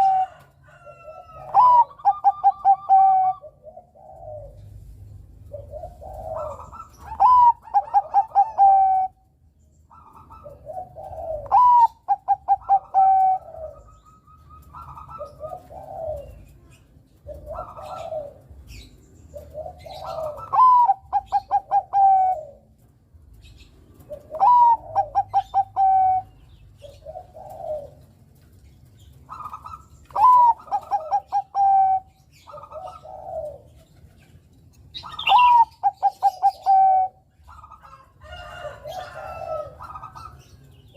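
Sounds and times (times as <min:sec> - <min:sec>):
dove cooing song: 0:00.0 - 0:40.9.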